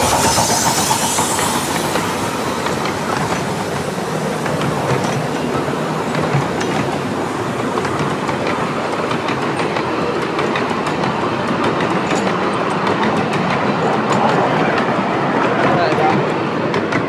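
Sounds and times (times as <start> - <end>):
wheels clicking over rail joints: 0.0 - 17.0
wheels rumbling on track: 0.0 - 17.0.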